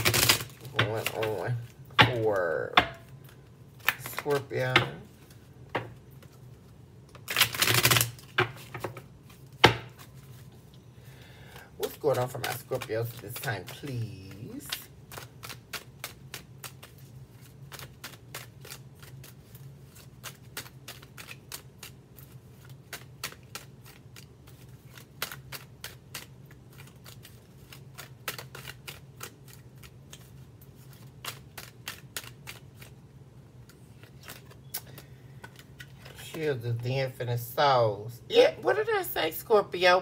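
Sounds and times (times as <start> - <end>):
cards being shuffled: 0.0 - 10.7, 11.5 - 33.0, 33.6 - 36.8.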